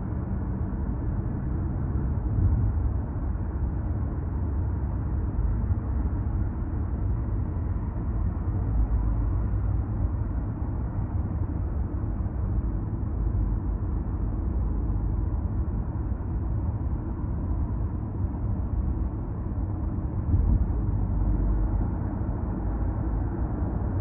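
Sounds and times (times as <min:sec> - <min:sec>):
car road and tyre noise: 0:00.0 - 0:24.0.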